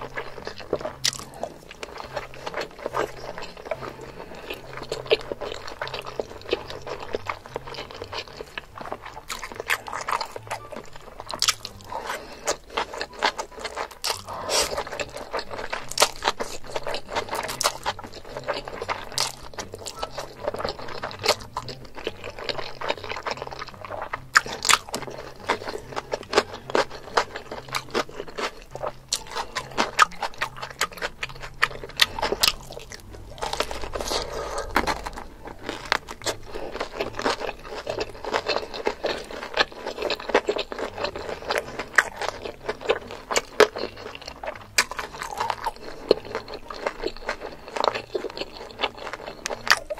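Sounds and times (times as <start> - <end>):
crunchy bites and chewing: 0.0 - 49.9.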